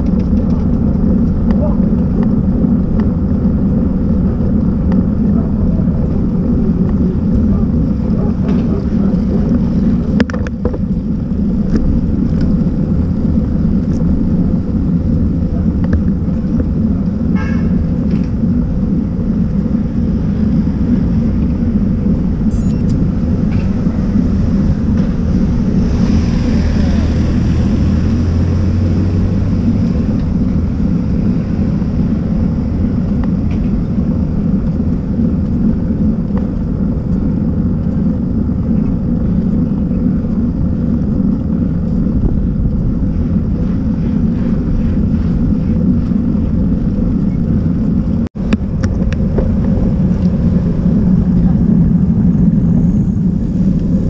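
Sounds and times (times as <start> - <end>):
road rumble: 0.0 - 54.0
wind buffeting: 0.0 - 54.0.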